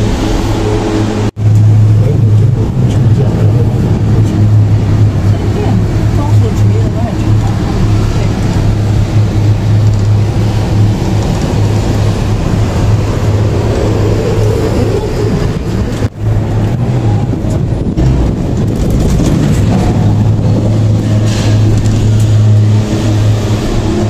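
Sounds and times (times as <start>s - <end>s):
gondola cabin hum and rumble: 0.0s - 24.0s.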